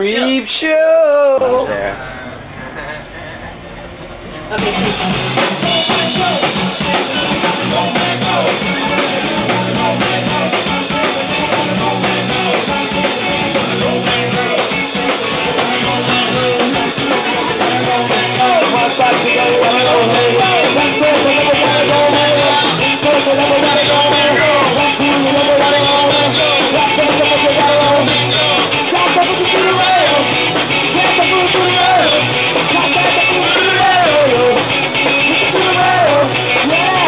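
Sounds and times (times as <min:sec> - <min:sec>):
rock music with singing: 0:00.0 - 0:37.0.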